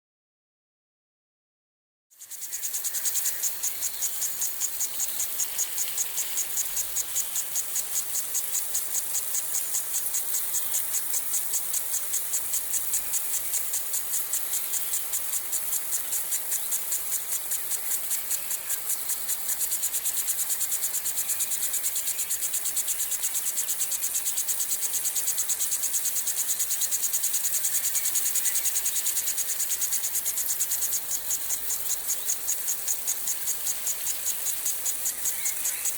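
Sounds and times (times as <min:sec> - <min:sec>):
lawn sprinkler spraying water: 0:02.2 - 0:35.9.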